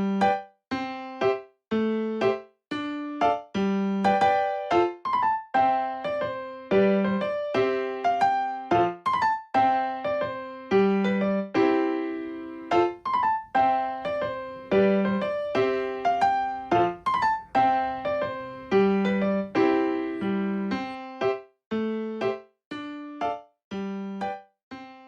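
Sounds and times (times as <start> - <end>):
keyboard melody: 0.0 - 25.0.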